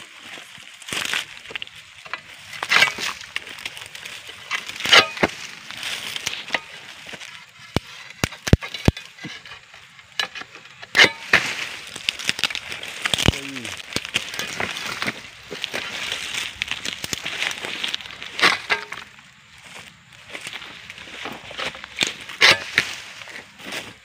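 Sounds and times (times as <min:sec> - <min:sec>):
fronds rustling: 0:00.0 - 0:24.0
blade scraping and cracking stalk: 0:00.2 - 0:24.0.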